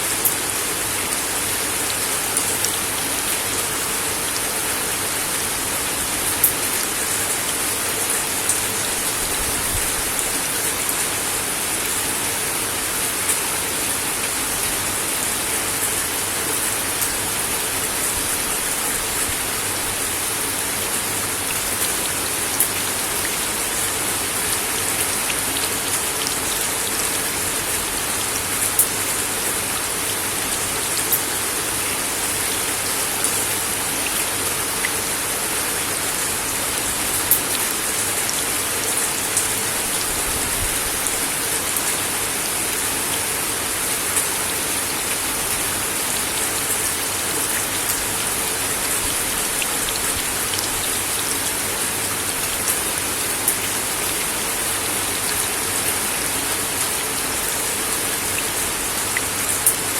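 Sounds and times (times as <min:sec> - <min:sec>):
rain on a wooden deck: 0:00.0 - 0:59.9.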